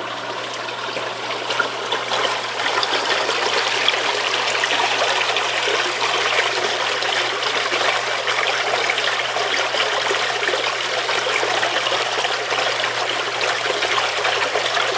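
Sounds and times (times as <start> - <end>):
water splashing and churning: 0.0 - 14.9.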